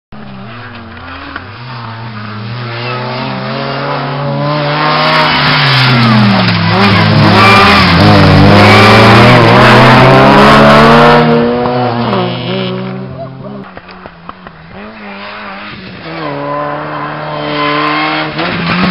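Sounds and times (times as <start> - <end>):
rally car engines at full throttle: 0.1 - 18.9.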